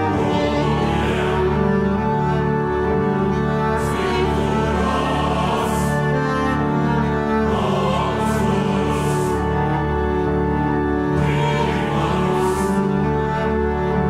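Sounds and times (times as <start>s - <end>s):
slow music of held notes: 0.0s - 14.0s.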